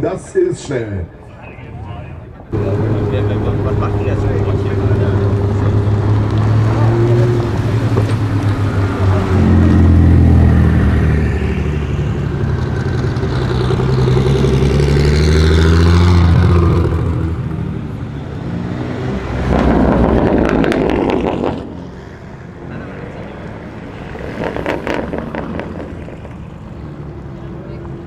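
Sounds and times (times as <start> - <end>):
car engines rumbling: 0.0 - 28.0.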